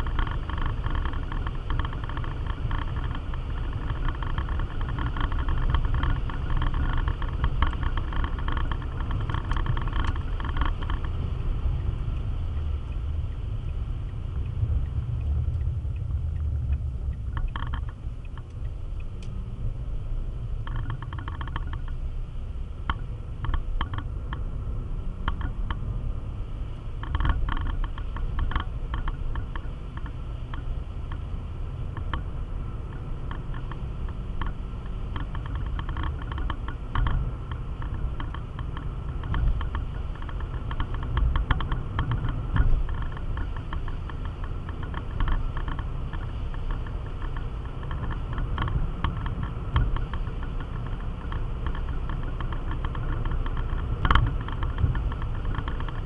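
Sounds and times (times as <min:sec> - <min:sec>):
engine and tyre rumble: 0:00.0 - 0:56.0
small clicks and ticks: 0:00.0 - 0:56.0.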